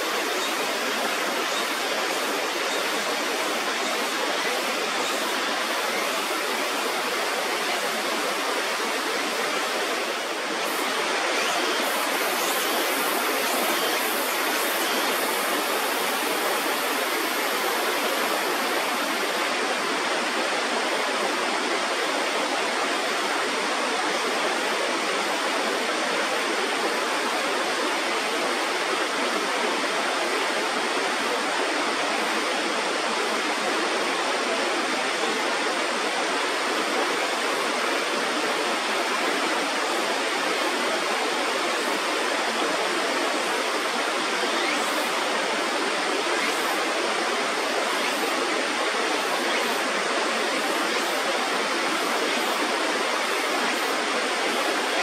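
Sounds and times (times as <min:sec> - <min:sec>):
water rushing over a weir: 0:00.0 - 0:55.0.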